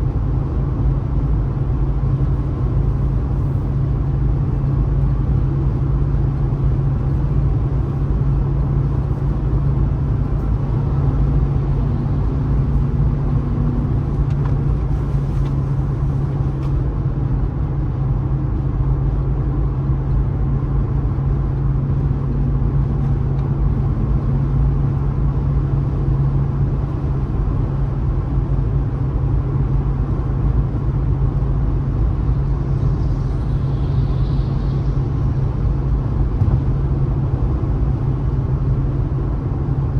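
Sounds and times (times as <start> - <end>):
car road noise at highway speed: 0.0 - 39.9.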